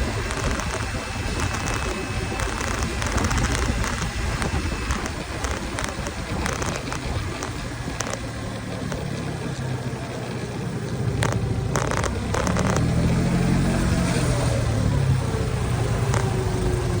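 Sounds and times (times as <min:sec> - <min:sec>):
low engine hum: 0:00.0 - 0:17.0
road traffic noise: 0:00.0 - 0:17.0.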